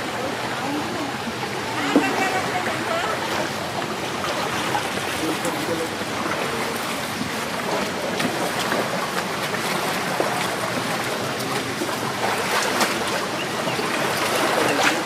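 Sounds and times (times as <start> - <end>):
rushing river water: 0.0 - 15.0
sharp water splashes: 1.6 - 15.0.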